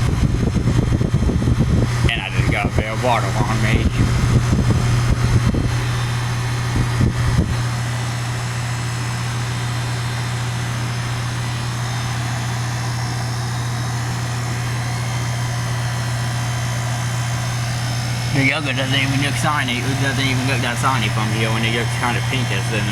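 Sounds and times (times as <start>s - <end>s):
compressor hum: 0.0s - 22.9s
condenser fan blowing: 0.0s - 22.9s.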